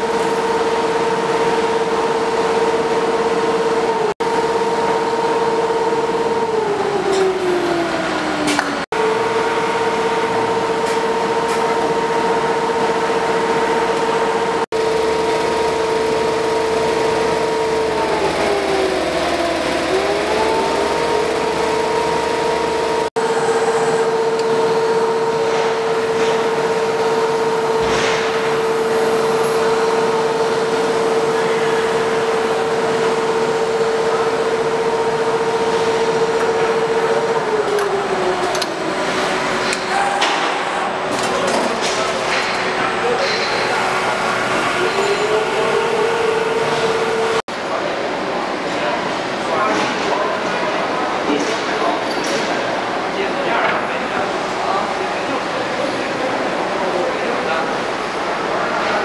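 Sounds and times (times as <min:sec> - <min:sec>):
machine motors whining: 0:00.0 - 0:59.0.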